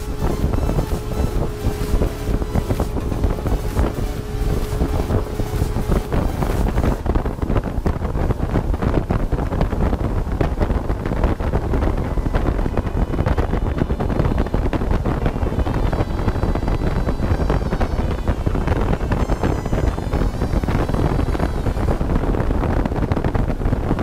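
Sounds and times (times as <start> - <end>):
hull rushing through water: 0.0 - 24.0
motorboat running: 0.0 - 24.0
wind buffeting microphone: 0.0 - 24.0.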